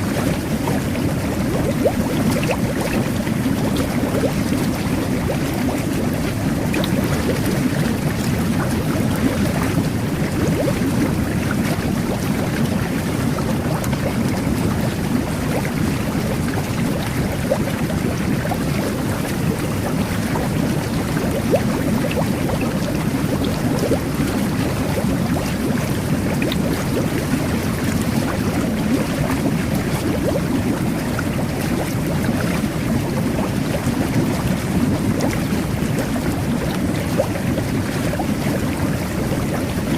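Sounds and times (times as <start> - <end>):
whirlpool bath bubbling water: 0.0 - 39.9.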